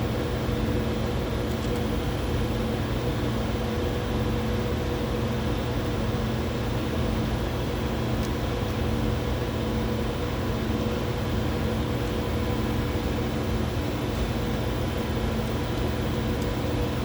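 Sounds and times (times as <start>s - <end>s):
lab equipment hum and hiss: 0.0s - 17.0s.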